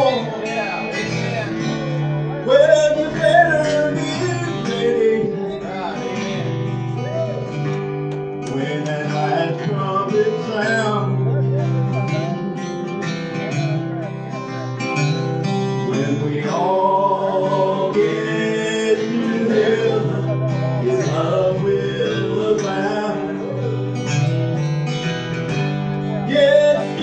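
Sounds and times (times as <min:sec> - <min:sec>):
country gospel guitar music: 0:00.0 - 0:27.0.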